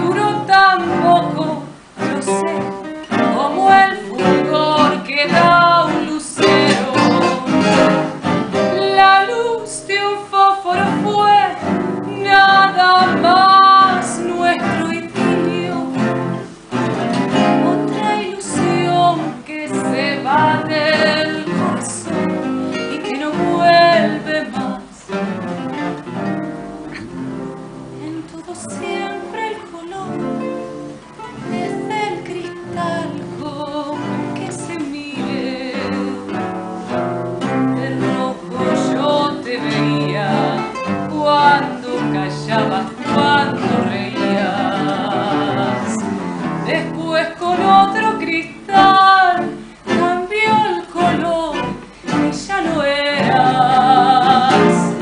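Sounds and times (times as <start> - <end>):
woman singing with vibrato: 0.0 - 25.3, 27.2 - 55.0
acoustic guitars playing: 0.0 - 55.0.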